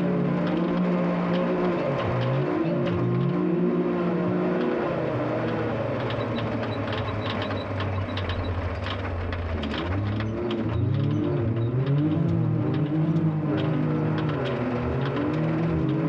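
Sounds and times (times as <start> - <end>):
utv engine running hard: 0.0 - 16.0
knocks and clatter: 0.3 - 3.6, 4.4 - 16.0.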